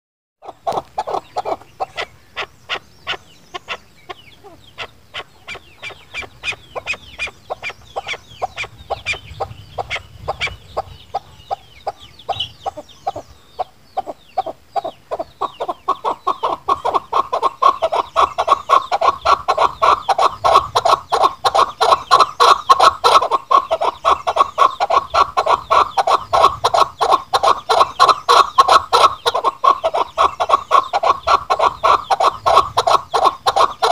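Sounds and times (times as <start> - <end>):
partridge clucking calls: 0.4 - 33.9.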